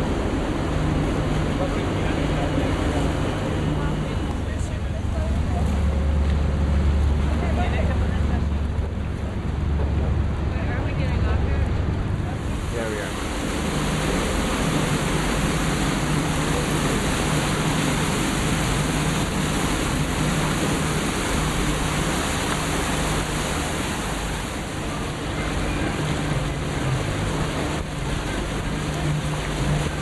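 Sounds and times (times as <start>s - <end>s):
boat engine low hum: 0.0s - 30.0s
water rushing: 0.0s - 30.0s.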